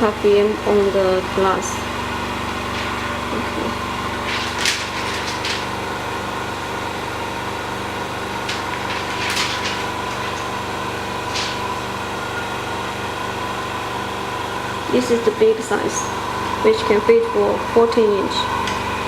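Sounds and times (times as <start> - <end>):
electric machine hum: 0.0 - 19.0.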